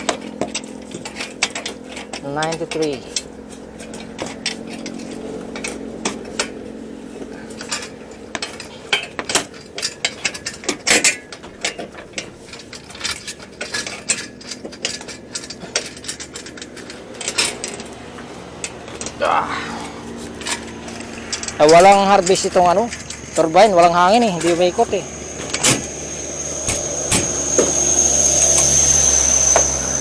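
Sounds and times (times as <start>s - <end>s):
faint steady hum: 0.0s - 30.0s
metal tools clicking and clanking: 0.0s - 30.0s.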